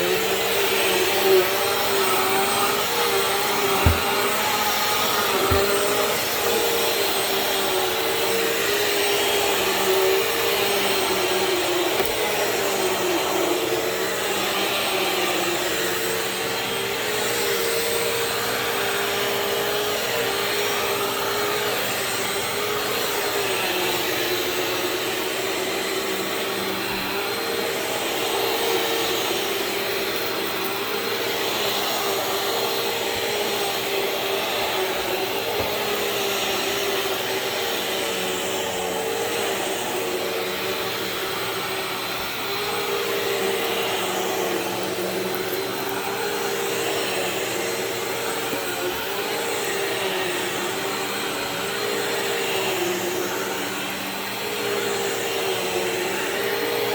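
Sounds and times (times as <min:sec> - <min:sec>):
vacuum cleaner running on carpet: 0:00.0 - 0:56.9.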